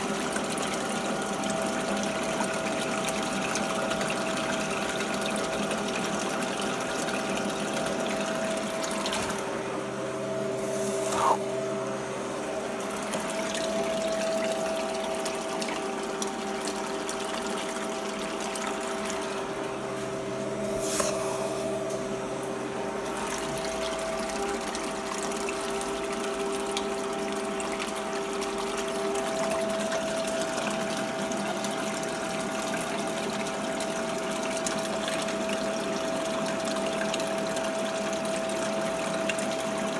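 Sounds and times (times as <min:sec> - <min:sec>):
pump humming: 0:00.0 - 0:39.9.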